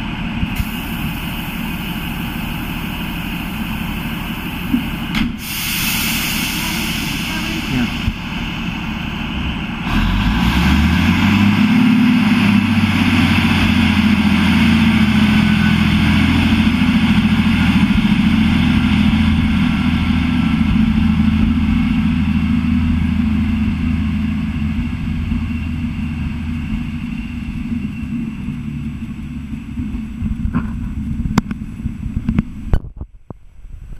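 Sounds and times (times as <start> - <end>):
diesel railcar engine accelerating: 0.0 - 33.9.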